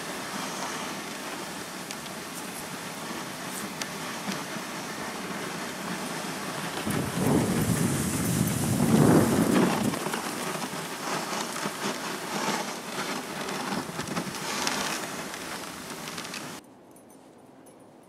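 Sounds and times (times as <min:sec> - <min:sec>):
sled runners hissing over snow: 0:00.0 - 0:16.6
wind buffeting microphone: 0:00.0 - 0:16.6.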